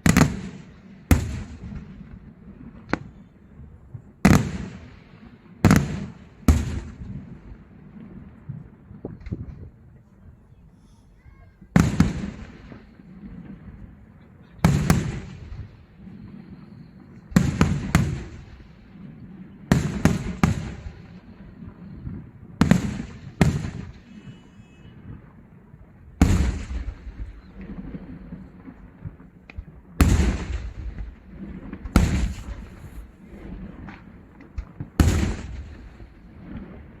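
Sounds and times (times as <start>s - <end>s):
fireworks bangs: 0.0s - 9.8s, 10.7s - 37.0s.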